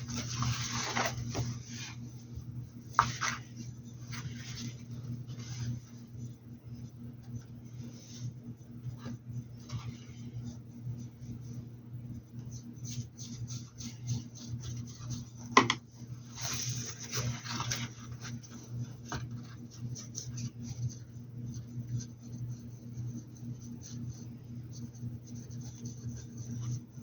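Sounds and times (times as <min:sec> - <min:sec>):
paintbrush dabbing and scratching: 0:00.0 - 0:15.5, 0:16.2 - 0:27.0
low electrical hum: 0:00.0 - 0:27.0.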